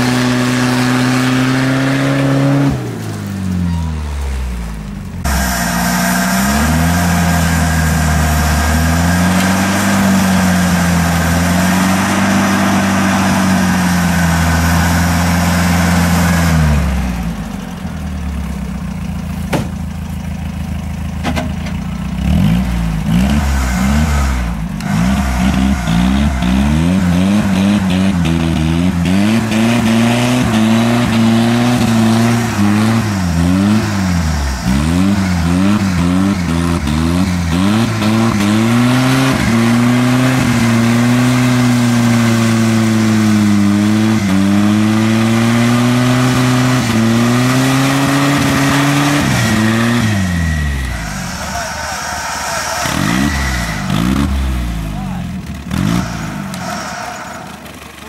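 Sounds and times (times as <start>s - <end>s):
engine revving: 0.0s - 19.8s, 20.4s - 58.0s
wheels spinning in mud: 0.0s - 58.0s.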